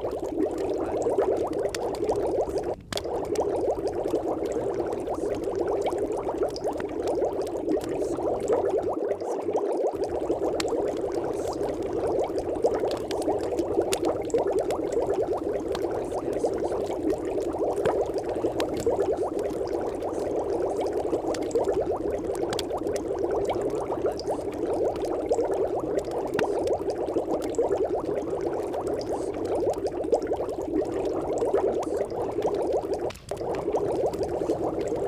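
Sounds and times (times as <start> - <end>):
muffled watery bubbling: 0.0 - 35.0.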